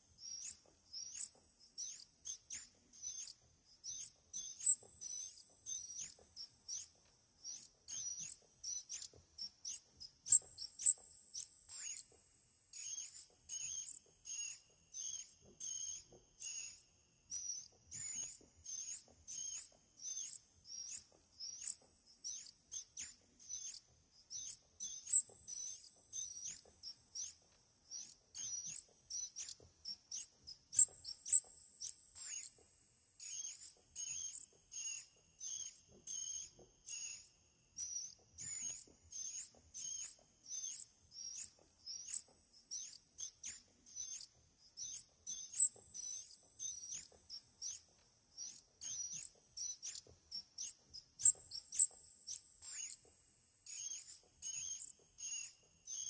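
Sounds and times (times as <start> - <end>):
high-pitched squeaky chirps: 0.0 - 56.0.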